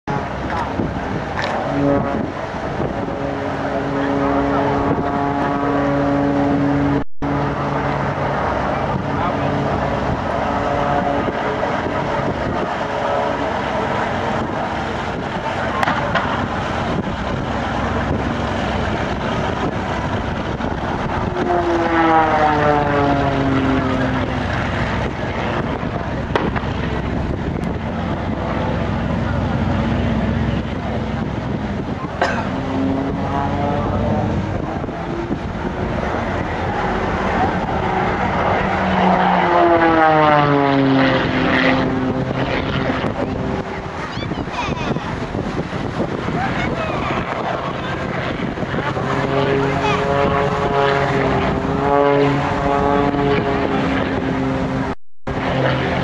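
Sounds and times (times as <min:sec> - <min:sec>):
constant rushing noise: 0:00.0 - 0:56.0
propeller plane engine: 0:00.0 - 0:56.0.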